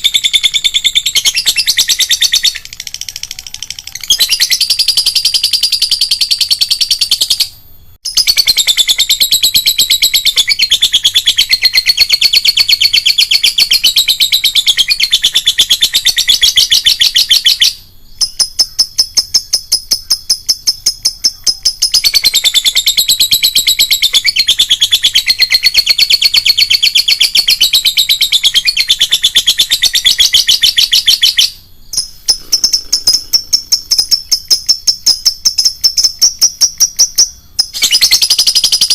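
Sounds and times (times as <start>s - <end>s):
lovebird chattering trill: 0.0s - 38.9s.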